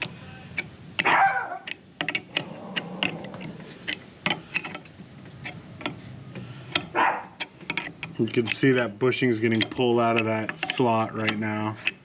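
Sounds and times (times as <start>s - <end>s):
wrench clicking on nut: 0.0s - 12.0s.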